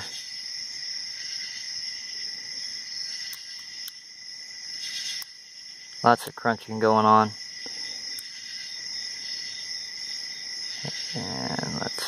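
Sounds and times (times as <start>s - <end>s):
high-pitched insect chirring: 0.0s - 12.0s.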